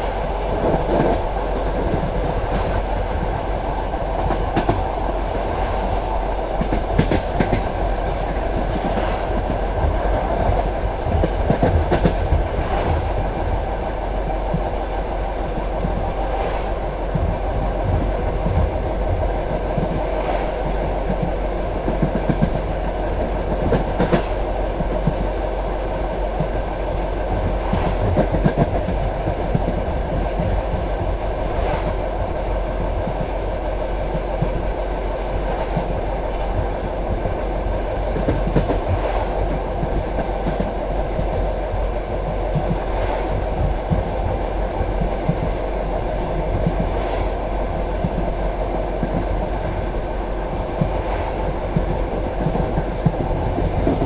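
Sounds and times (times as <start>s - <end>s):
rail clack: 0.0s - 54.0s
train wheels rumbling on rails: 0.0s - 54.0s.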